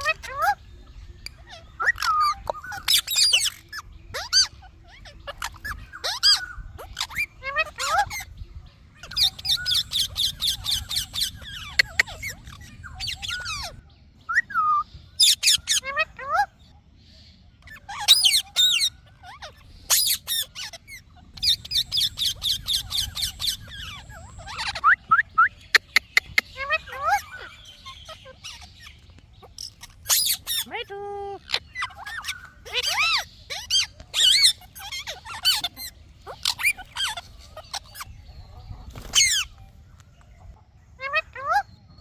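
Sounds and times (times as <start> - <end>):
parrot screeching and chattering: 0.0 - 0.6, 1.2 - 13.8, 15.2 - 16.5, 17.6 - 25.0, 25.7 - 38.4, 39.0 - 39.6.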